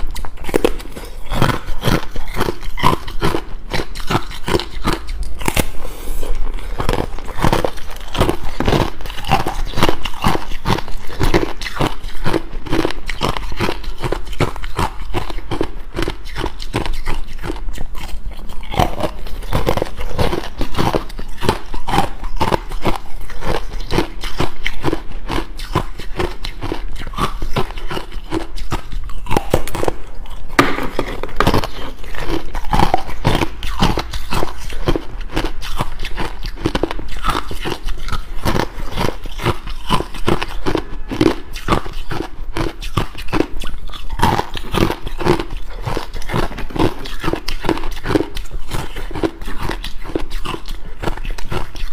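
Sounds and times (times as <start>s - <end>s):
person crunching ice: 0.0s - 51.9s.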